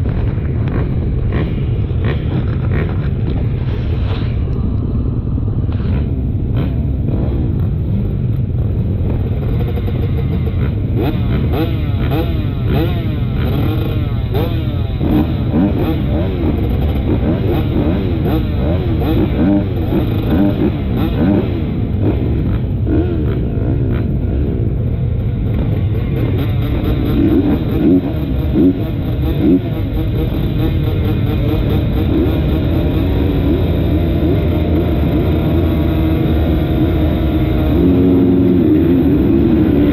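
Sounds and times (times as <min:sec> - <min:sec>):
motocross engines revving: 0:00.0 - 0:04.6, 0:05.6 - 0:39.9
constant low rumble: 0:00.0 - 0:39.9.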